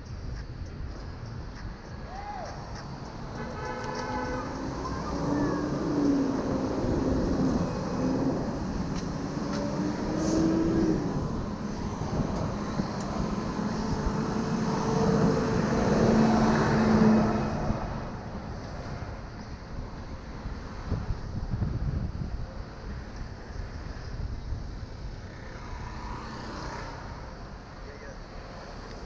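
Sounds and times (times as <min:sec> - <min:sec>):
traffic engines humming: 0:00.0 - 0:29.0
longboard wheels rolling on asphalt: 0:02.6 - 0:29.0.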